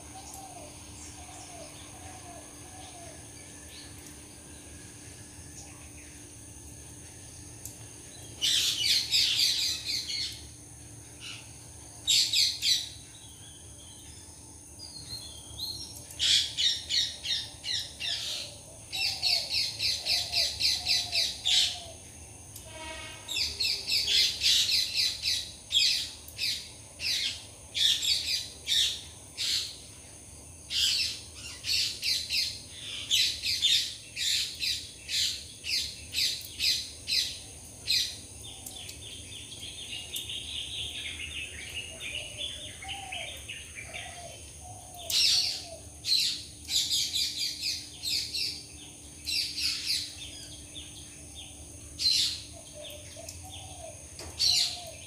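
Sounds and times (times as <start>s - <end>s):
faint high hum: 0.0s - 55.0s.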